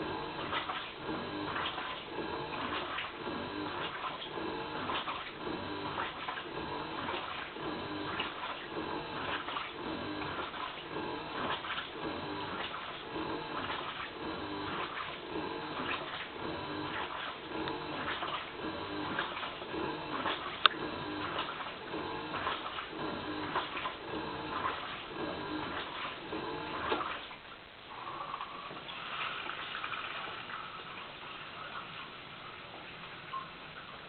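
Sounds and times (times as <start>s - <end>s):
washing machine motor rhythm: 0.0s - 34.0s
water sloshing: 0.0s - 34.0s.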